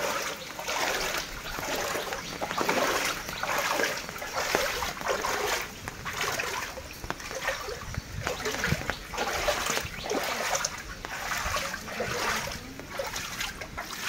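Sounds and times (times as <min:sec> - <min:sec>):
wading through splashing water: 0:00.0 - 0:14.0.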